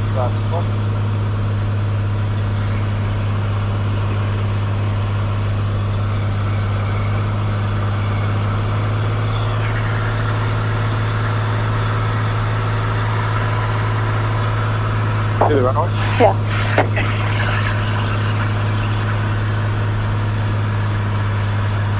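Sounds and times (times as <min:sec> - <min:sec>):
propeller plane engine droning: 0:00.0 - 0:21.9.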